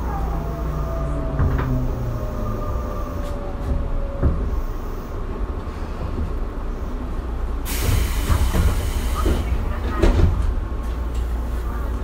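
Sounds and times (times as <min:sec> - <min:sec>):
electric train low rumble: 0:00.0 - 0:12.0.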